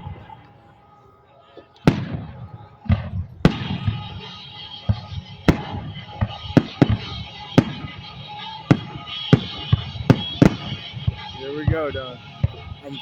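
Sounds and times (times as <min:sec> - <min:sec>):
fireworks rumbling and crackle: 0:00.0 - 0:13.0
fireworks bangs: 0:01.8 - 0:13.0.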